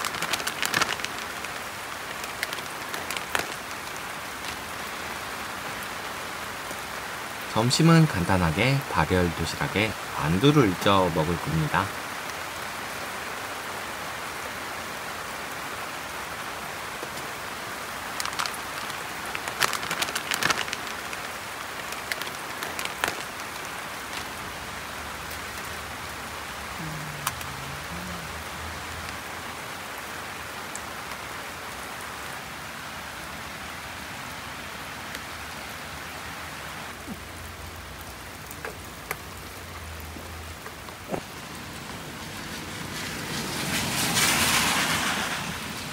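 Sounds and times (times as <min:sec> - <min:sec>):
heavy rain on tarp and gravel: 0:00.0 - 0:45.9.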